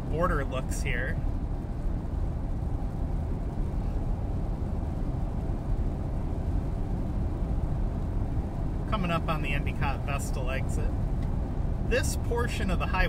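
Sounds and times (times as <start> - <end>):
car tyre and engine rumble: 0.0 - 13.0.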